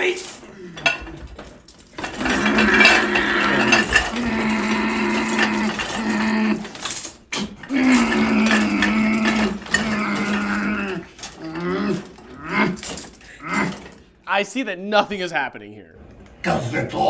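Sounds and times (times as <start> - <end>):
person imitating dishwasher: 0.0 - 17.0.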